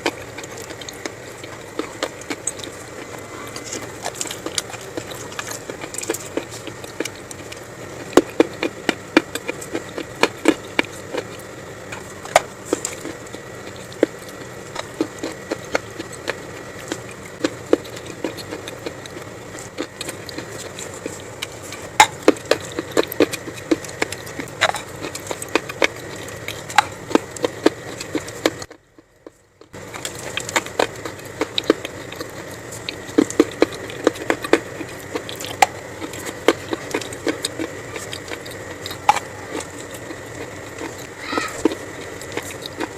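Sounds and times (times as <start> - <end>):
dry clay being chewed: 0.0 - 42.9.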